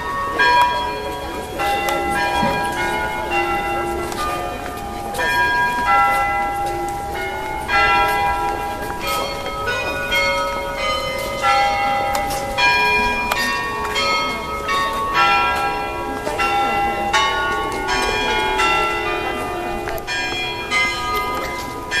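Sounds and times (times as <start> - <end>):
church bells ringing a tune: 0.0 - 22.0.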